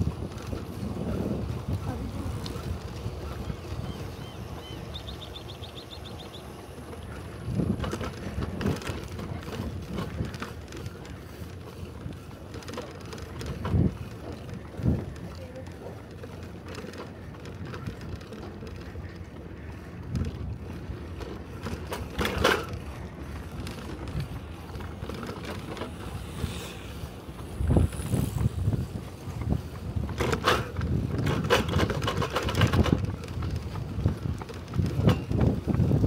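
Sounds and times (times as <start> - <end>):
bicycle tyres rolling on concrete: 0.0 - 36.0
wind on microphone: 0.0 - 36.0
bicycle knocks and rattles: 4.7 - 26.7, 27.3 - 36.0.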